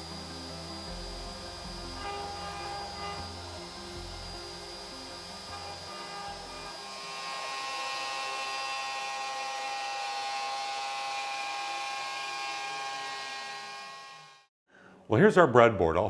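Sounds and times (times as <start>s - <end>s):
router spindle whining: 0.0s - 14.5s.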